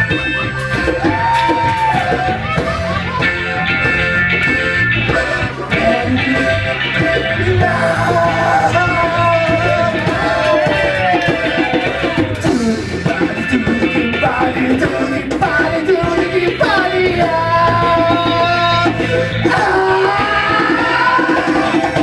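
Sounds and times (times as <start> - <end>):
rock band playing live: 0.0 - 22.0
sliding lead guitar line: 0.0 - 22.0.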